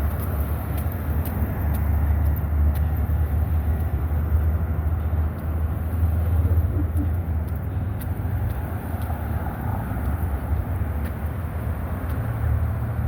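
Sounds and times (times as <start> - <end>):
vehicles passing on busy road: 0.0 - 13.0.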